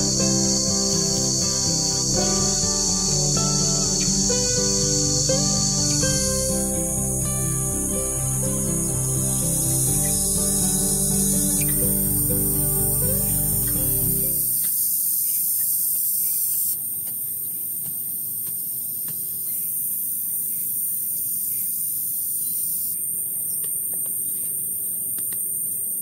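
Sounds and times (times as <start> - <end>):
high-pitched outdoor hiss: 0.0 - 26.0.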